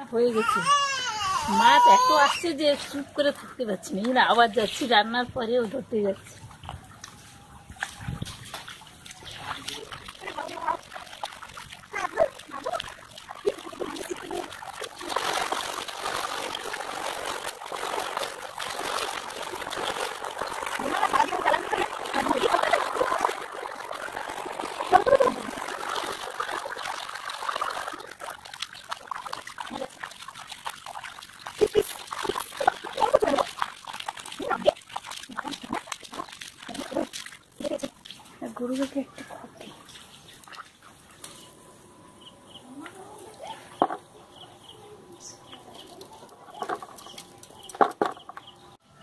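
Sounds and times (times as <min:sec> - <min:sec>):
running water splashing: 0:00.1 - 0:41.1, 0:45.5 - 0:48.5.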